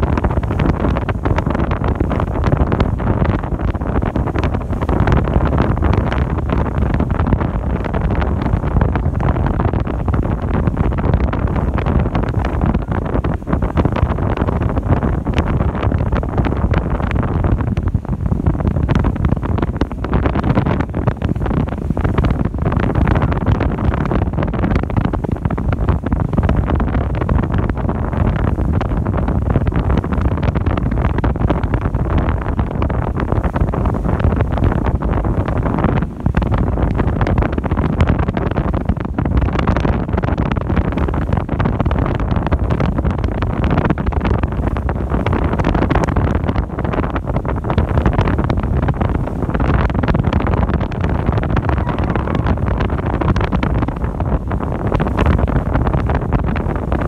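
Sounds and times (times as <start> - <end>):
ship engine rumble: 0.0 - 57.0
wind buffeting microphone: 0.0 - 57.0.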